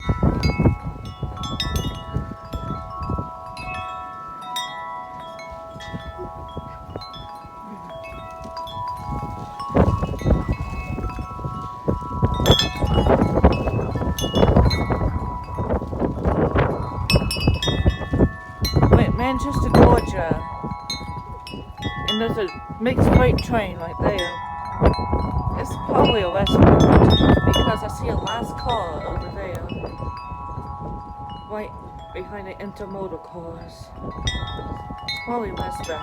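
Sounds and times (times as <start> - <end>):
wind buffeting microphone: 0.0 - 36.0
wind chime ringing: 0.0 - 36.0.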